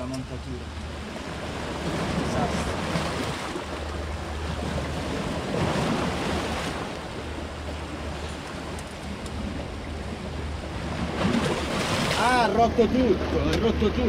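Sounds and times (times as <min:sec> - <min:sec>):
sea waves washing against rocks: 0:00.0 - 0:14.0.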